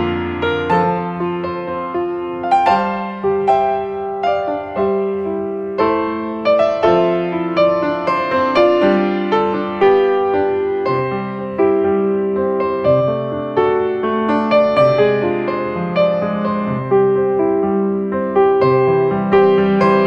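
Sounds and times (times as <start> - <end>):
slow piano melody: 0.0 - 20.0.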